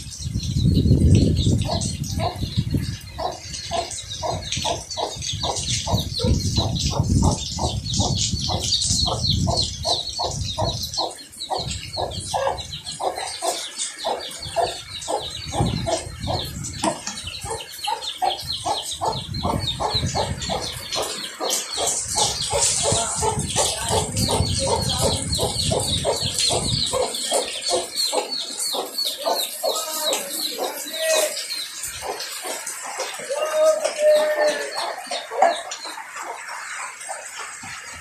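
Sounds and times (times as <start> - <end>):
chicks peeping: 0.0 - 38.0
hen clucking: 1.2 - 38.0.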